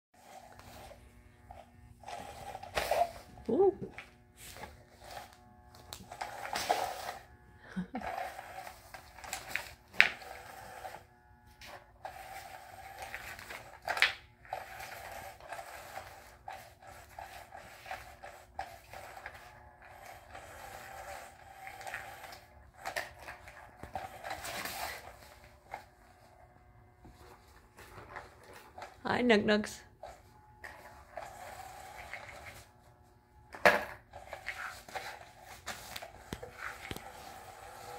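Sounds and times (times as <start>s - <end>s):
small toy motor running: 0.2s - 26.4s, 27.2s - 37.9s
cats scratching fabric: 0.2s - 29.0s, 30.0s - 33.2s, 34.1s - 37.9s.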